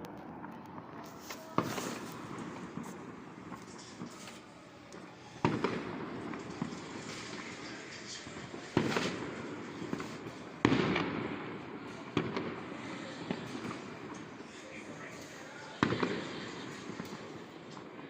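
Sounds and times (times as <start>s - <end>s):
small fireworks crackles and pops: 0.0s - 18.0s
loud fireworks bangs: 0.1s - 18.0s.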